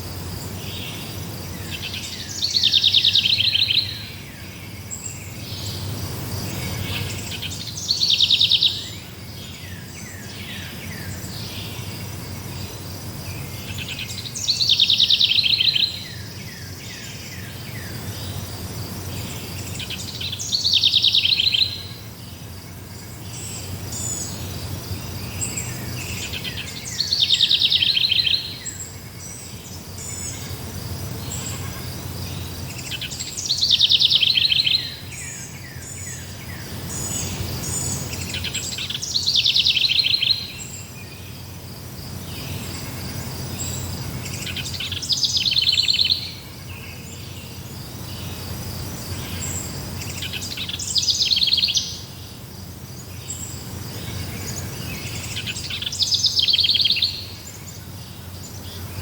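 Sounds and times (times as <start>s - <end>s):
high insect trill: 0.0s - 59.0s.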